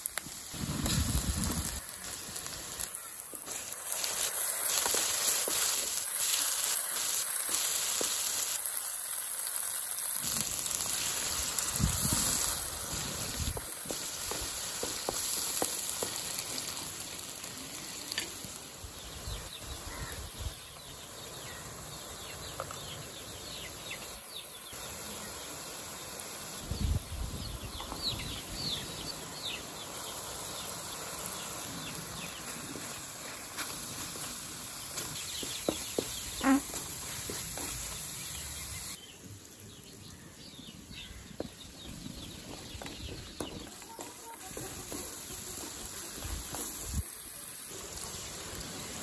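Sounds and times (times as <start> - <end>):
masala sizzling in pan: 0.0 - 49.0.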